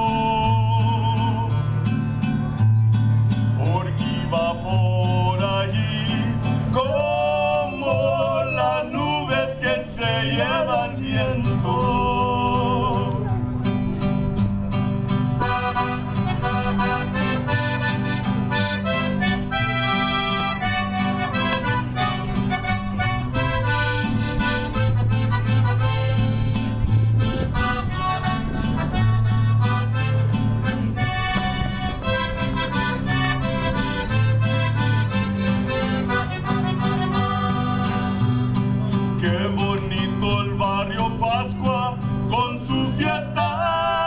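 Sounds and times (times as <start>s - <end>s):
accordion melody: 0.0s - 44.0s
acoustic guitar strumming: 0.0s - 44.0s.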